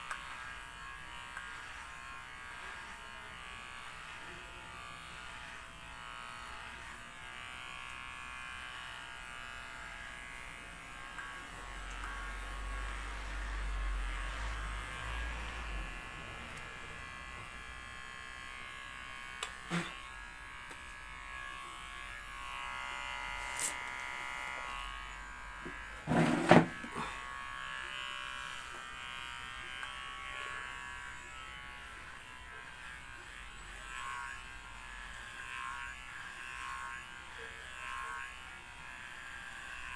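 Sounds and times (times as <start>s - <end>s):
electric hair clipper buzzing: 0.0s - 39.9s.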